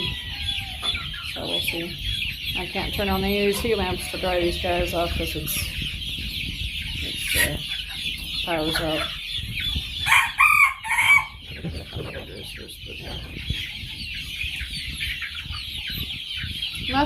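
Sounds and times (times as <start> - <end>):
chicks peeping and chirping: 0.0 - 17.0.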